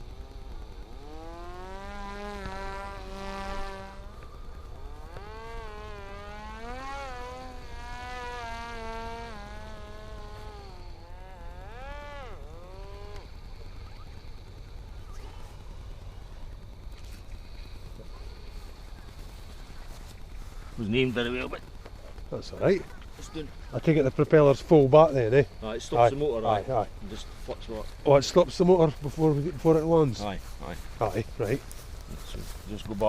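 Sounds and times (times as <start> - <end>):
drone motor and propeller whining: 0.0 - 33.0.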